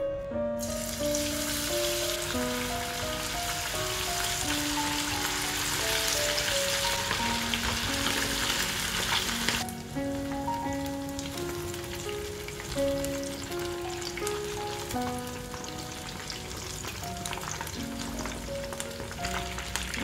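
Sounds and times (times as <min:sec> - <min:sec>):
soft background music: 0:00.0 - 0:20.0
chicken frying in oil: 0:00.6 - 0:20.0.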